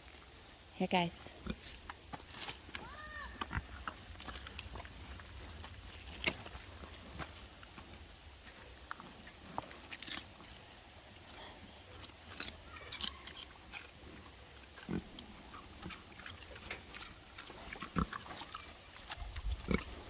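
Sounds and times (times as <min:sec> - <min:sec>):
animals crunching and chewing: 0:00.0 - 0:20.0.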